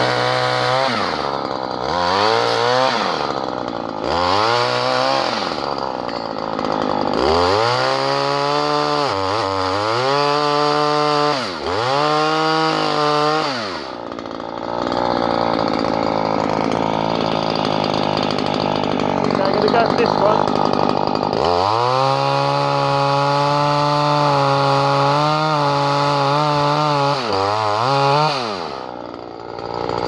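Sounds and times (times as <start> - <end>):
pole chainsaw engine revving: 0.0 - 30.0.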